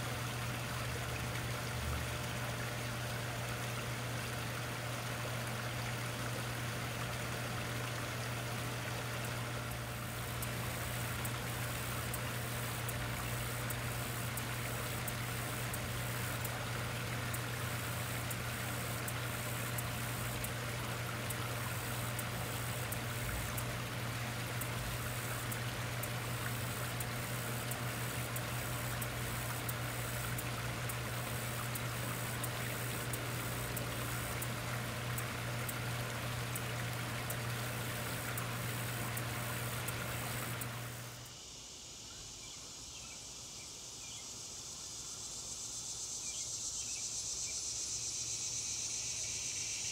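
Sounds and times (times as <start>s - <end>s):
water trickling over rocks: 0.0s - 41.2s.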